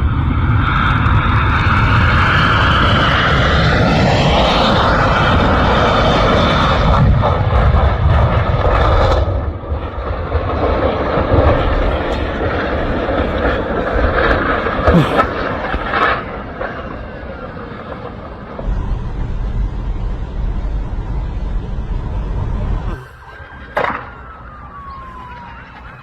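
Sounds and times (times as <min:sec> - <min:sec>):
airplane engine noise: 0:00.0 - 0:26.0.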